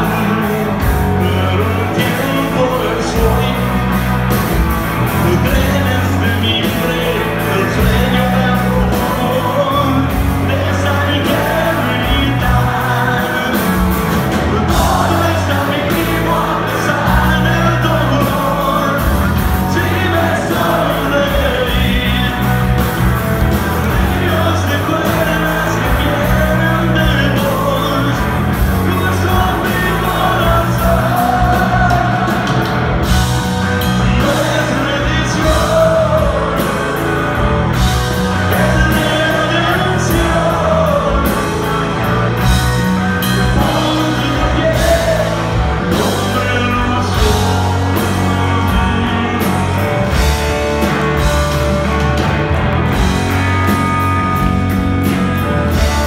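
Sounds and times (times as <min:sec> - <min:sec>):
person singing: 0:00.0 - 0:04.4, 0:05.1 - 0:22.9, 0:23.5 - 0:42.6, 0:43.2 - 0:52.2
bass guitar: 0:00.0 - 0:56.0
drums: 0:00.0 - 0:56.0
electric guitar: 0:00.0 - 0:56.0.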